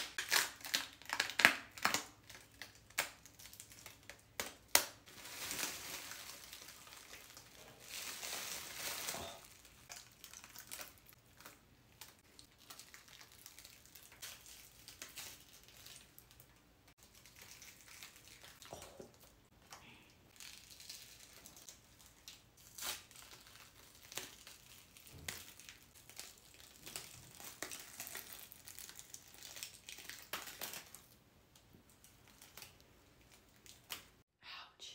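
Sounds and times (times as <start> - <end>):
plastic wrap crinkling and tearing: 0.0 - 19.6, 20.3 - 34.2.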